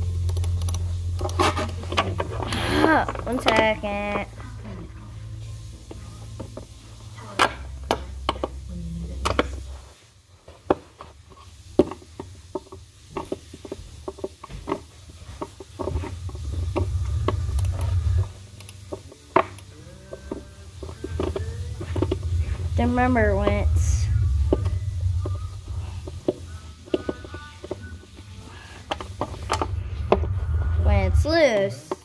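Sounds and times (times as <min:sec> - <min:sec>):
low rumble of board handling: 0:01.0 - 0:09.9, 0:10.5 - 0:31.3.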